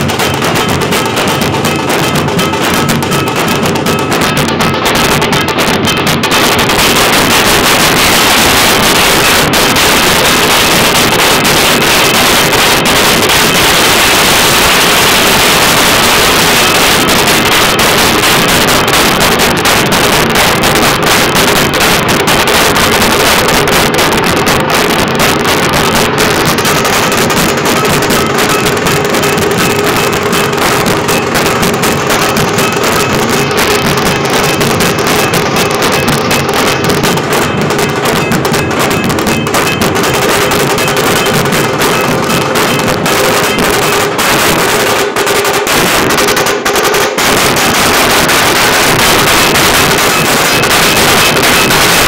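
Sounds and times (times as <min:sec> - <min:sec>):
dhol drums beaten in unison: 0:00.0 - 0:52.0.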